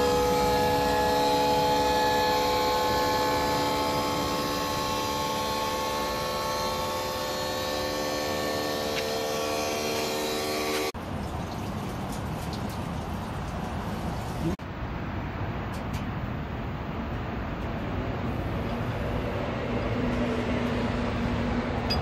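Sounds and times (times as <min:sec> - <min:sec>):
truck engine whine: 0:00.0 - 0:11.0, 0:14.4 - 0:22.0.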